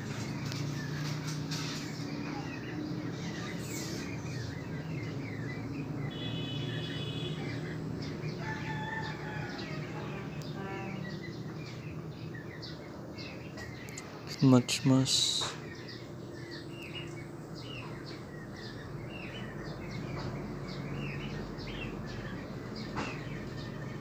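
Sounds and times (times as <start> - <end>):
bird calls: 0.0 - 24.0
birds chirping: 0.0 - 24.0
steady low hum: 0.0 - 24.0.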